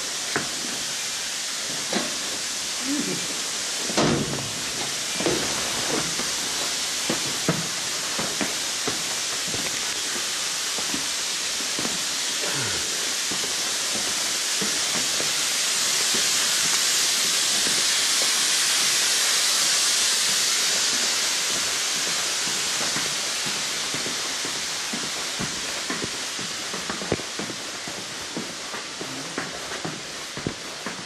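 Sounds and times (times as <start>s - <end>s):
loud steady hiss: 0.0s - 31.0s.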